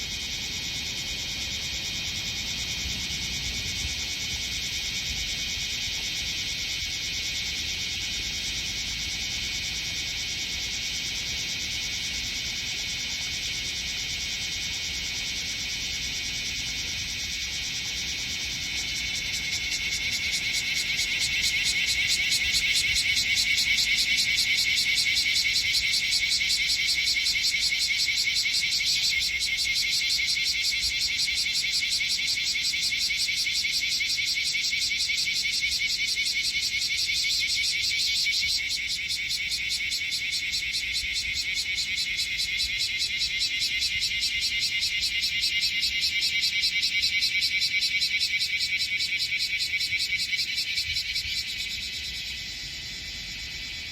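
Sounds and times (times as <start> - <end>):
cicadas calling: 0.0 - 53.9.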